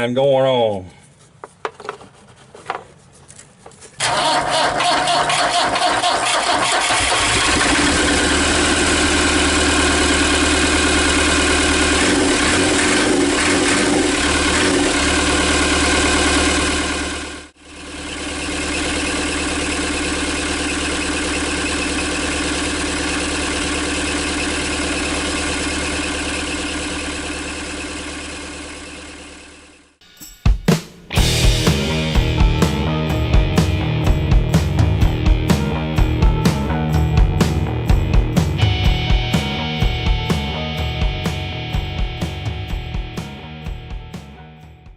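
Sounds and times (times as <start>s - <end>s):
diesel engine running: 4.0s - 30.0s, 31.2s - 44.1s.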